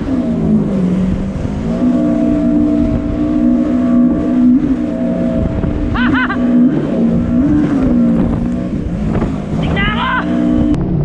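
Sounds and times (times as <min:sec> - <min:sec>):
jet ski engine running: 0:00.0 - 0:11.0
rushing water: 0:00.0 - 0:11.0
wind: 0:00.0 - 0:11.0.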